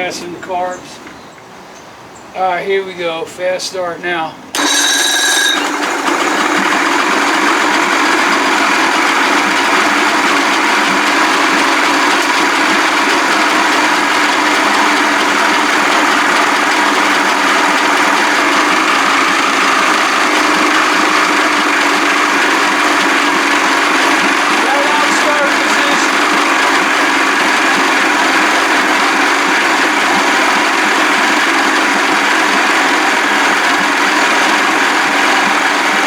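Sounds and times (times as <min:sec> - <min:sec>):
outboard engine idling: 0:05.6 - 0:36.0.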